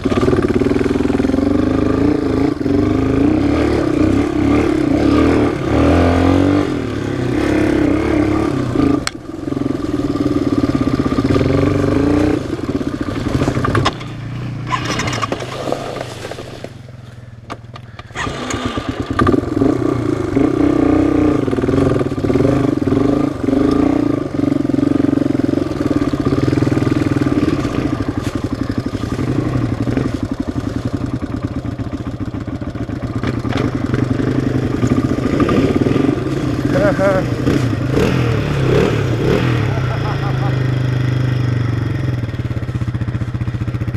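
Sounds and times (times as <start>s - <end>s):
off-road engine revving: 0.0s - 43.9s.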